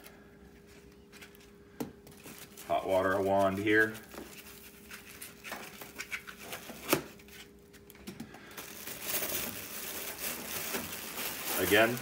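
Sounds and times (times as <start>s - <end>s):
foam wrap crinkling: 0.0s - 12.0s
foam wrap rustling: 0.0s - 12.0s.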